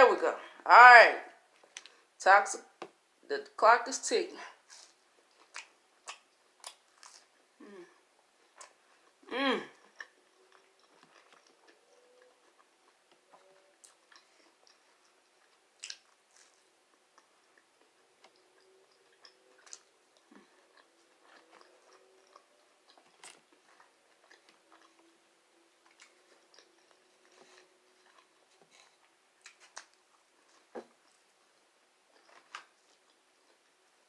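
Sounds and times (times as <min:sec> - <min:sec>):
person chewing food: 0:01.5 - 0:02.1, 0:04.6 - 0:34.0.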